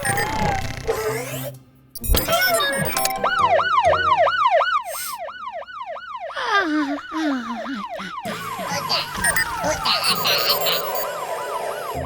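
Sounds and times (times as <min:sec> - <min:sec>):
cartoon siren warbling: 0:02.1 - 0:12.0.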